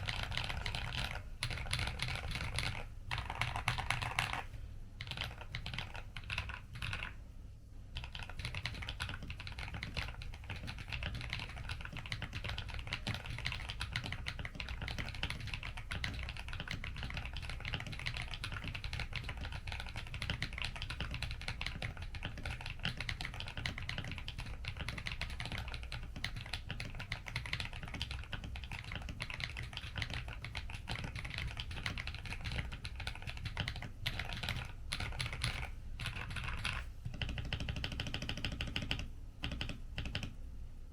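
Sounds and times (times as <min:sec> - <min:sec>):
fast typing on mechanical keyboard: 0:00.0 - 0:07.2, 0:08.0 - 0:40.4.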